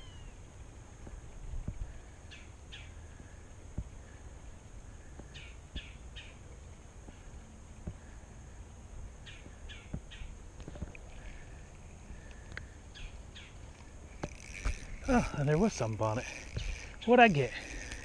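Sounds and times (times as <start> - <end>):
songbird calling: 0.0 - 8.6, 9.2 - 18.0
low outdoor rumble: 0.0 - 18.0.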